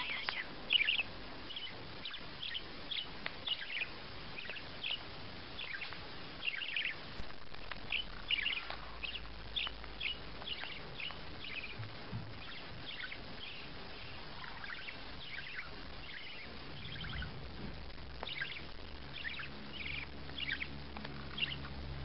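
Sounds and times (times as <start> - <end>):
parrot chirping: 0.0 - 22.0.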